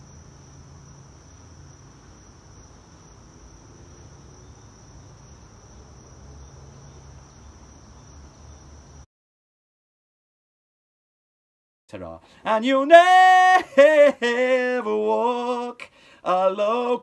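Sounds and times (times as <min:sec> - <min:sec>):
crickets trilling: 0:00.0 - 0:09.1, 0:12.3 - 0:17.0.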